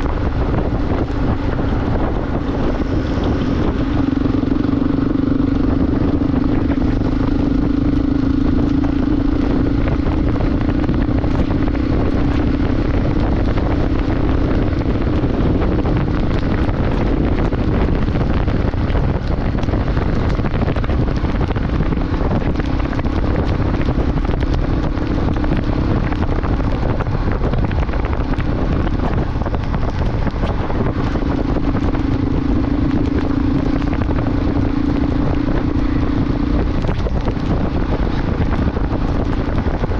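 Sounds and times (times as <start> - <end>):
motorcycle engine hum: 0.0 - 39.9
wind rush on microphone: 0.0 - 39.9.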